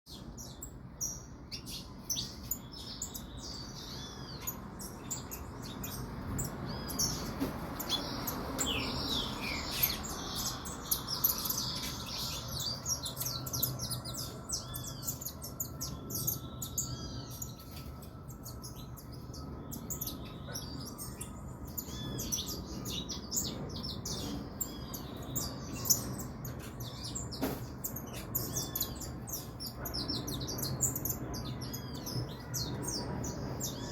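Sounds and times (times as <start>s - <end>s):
finch chirping rapidly: 0.1s - 33.9s.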